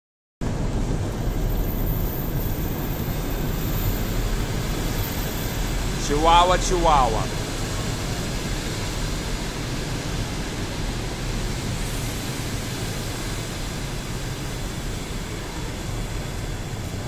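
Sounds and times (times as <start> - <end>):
train coaches rolling past: 0.4 - 17.0.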